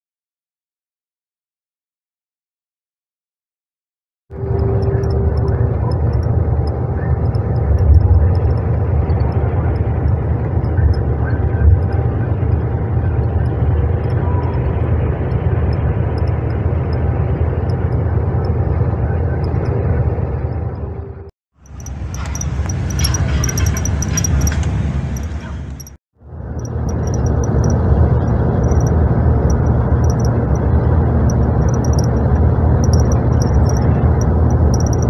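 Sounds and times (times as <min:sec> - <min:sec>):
bus engine and tyre drone: 0:04.3 - 0:35.0
faint constant whine: 0:04.4 - 0:35.0.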